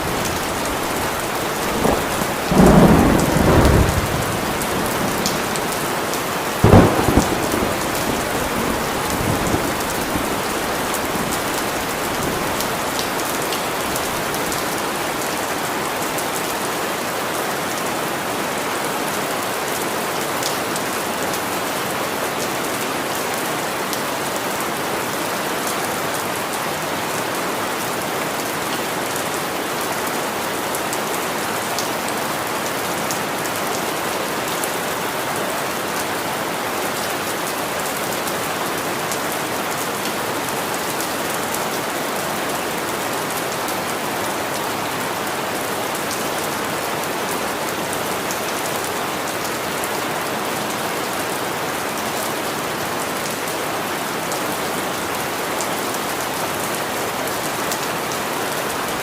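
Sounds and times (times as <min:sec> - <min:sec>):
steady rain on hard surface: 0:00.0 - 0:59.0.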